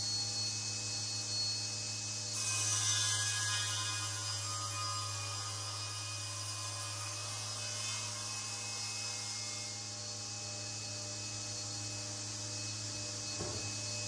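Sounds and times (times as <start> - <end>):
woodworking machinery low hum: 0.0 - 14.0.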